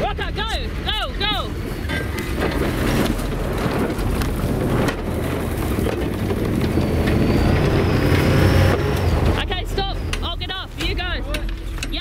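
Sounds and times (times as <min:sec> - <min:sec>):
buggy engine running: 0:00.0 - 0:12.0.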